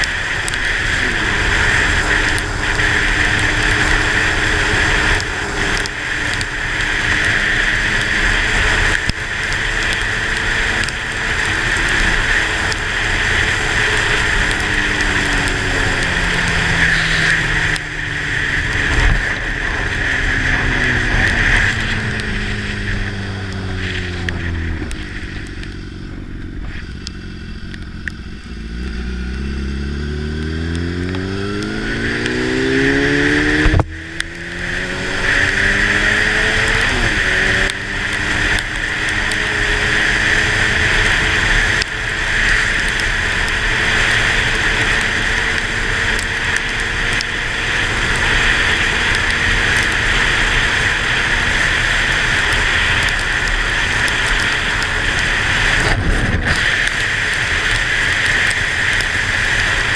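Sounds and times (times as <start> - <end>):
motorcycle engine: 0.0 - 59.9
tyres hissing on wet pavement: 0.0 - 59.9.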